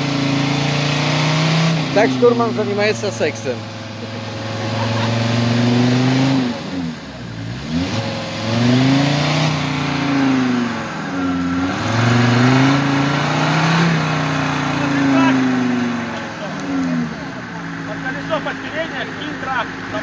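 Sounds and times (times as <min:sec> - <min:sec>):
engine revving hard: 0:00.0 - 0:20.0.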